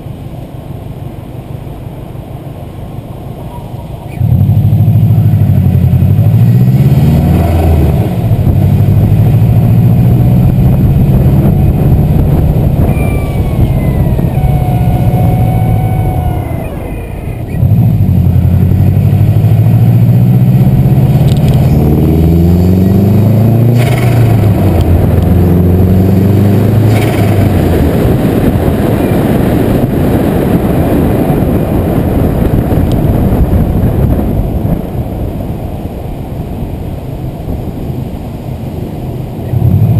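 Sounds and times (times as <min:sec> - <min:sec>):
turbocharged engine accelerating: 0:03.0 - 0:39.9.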